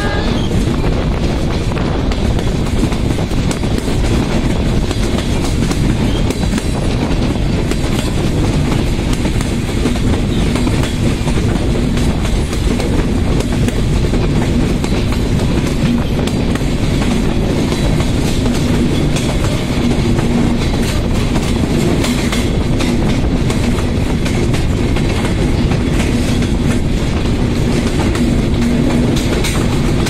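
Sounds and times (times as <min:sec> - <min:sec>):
train wheels rumbling on rail: 0:00.0 - 0:30.0
wheels clacking over rail joints: 0:00.0 - 0:30.0.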